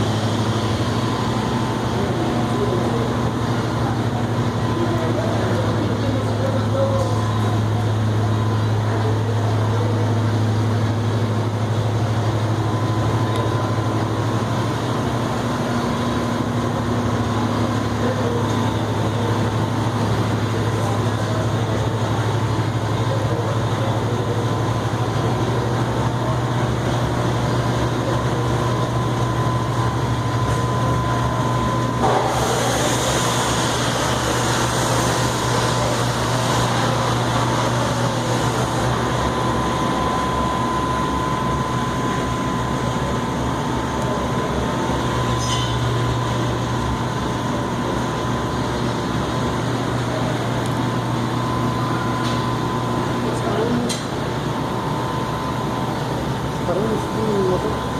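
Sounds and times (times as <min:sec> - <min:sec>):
washing machine motor hum: 0:00.0 - 0:57.9.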